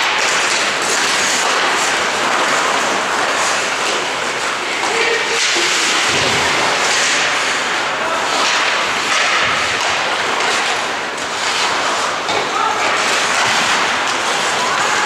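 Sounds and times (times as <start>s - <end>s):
skates scraping on ice: 0.0s - 15.0s.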